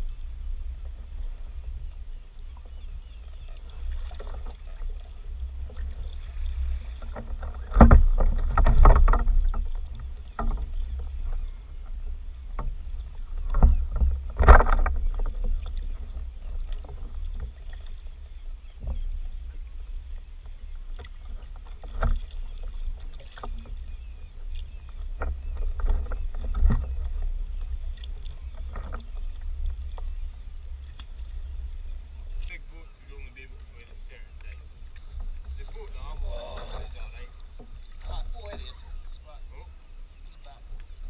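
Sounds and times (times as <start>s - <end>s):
wind and water rumble: 0.0s - 41.0s.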